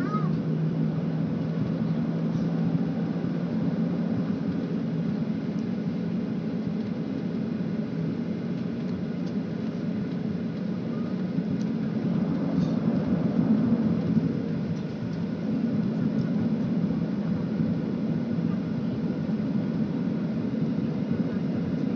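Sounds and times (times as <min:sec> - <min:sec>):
jet engine rumble in cabin: 0:00.0 - 0:21.9.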